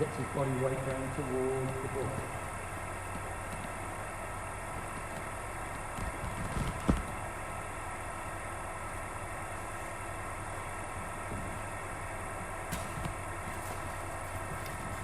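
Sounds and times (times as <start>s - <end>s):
bowling machine motor hum: 0.0s - 15.0s.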